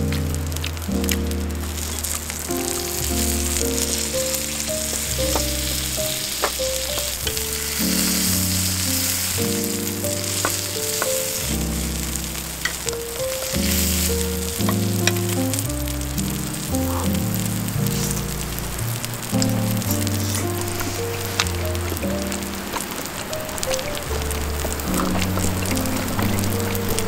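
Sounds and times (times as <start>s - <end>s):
background music: 0.0s - 27.0s
steak sizzling on hot plate: 0.1s - 27.0s.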